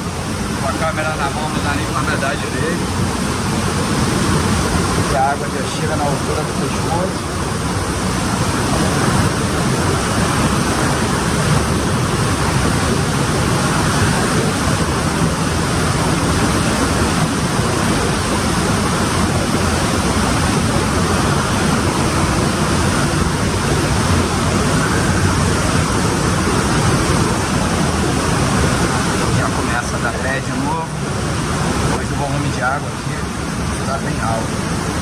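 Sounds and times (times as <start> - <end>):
waterfall and river rushing: 0.0 - 35.0.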